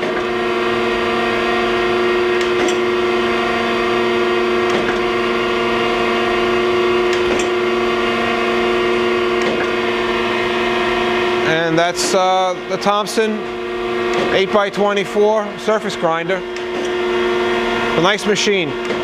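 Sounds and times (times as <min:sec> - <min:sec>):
grinder motor hum: 0:00.0 - 0:19.0.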